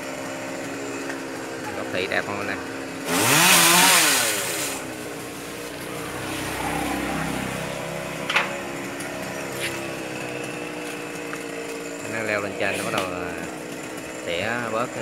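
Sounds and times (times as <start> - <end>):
chainsaw idling: 0.0 - 15.0.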